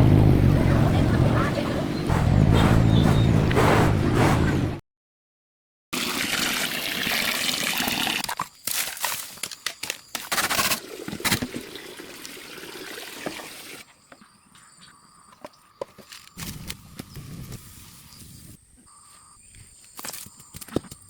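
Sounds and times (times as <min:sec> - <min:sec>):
outdoor ambience: 0:00.0 - 0:04.8, 0:06.7 - 0:21.0.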